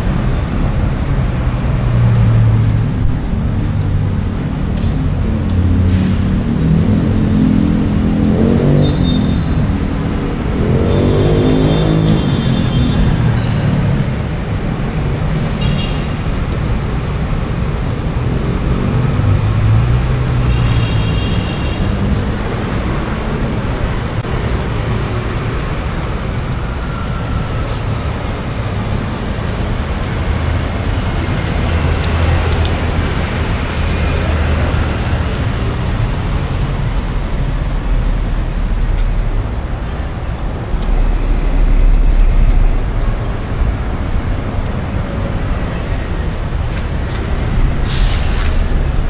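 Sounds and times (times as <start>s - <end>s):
car and bus engines passing: 0.0s - 49.0s.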